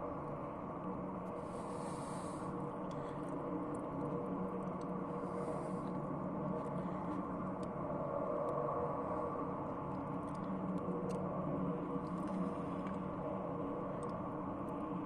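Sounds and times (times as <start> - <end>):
faint steady hum tone: 0.0 - 15.0.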